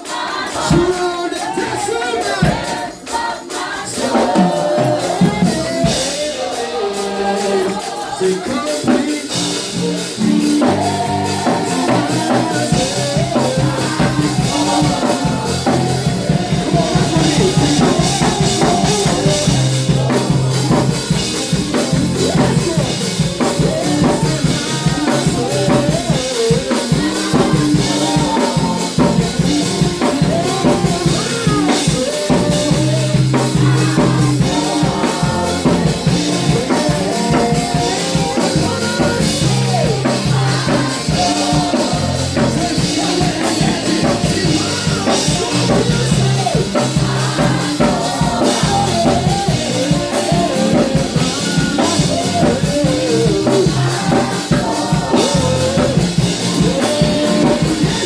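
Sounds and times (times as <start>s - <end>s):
person singing: 0.0s - 58.0s
worship band playing: 0.0s - 58.0s.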